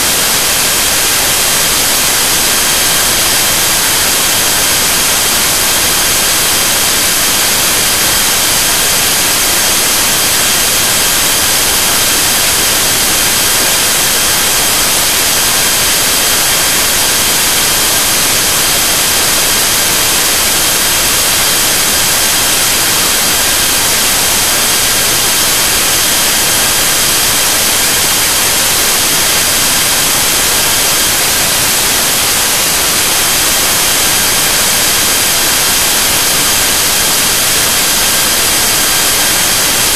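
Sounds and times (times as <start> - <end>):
electronic static hiss: 0.0 - 39.9.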